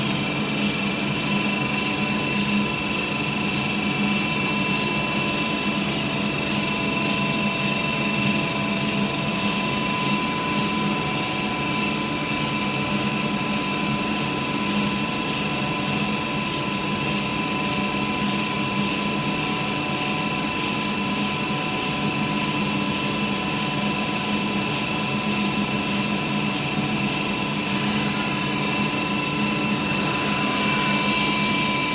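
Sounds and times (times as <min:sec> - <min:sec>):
grinding machine hum and whine: 0:00.0 - 0:31.9.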